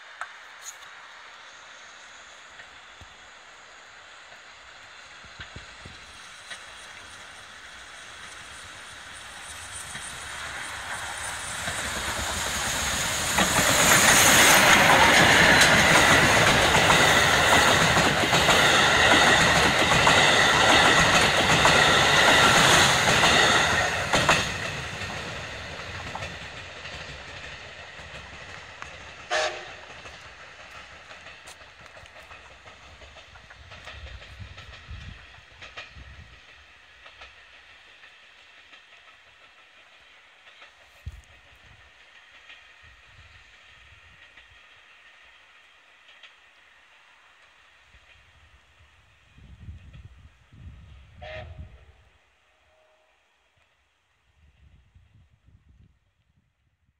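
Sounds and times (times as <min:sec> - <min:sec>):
steam train passing: 0:00.0 - 0:56.7.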